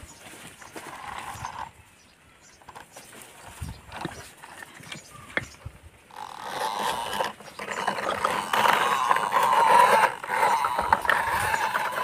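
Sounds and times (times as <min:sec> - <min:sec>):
toy truck wheels rattling on dirt: 0:00.0 - 0:12.0.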